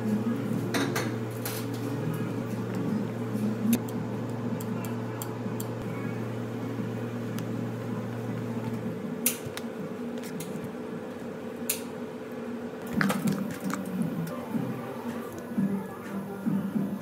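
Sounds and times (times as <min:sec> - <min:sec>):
appliance hum: 0:00.0 - 0:17.0.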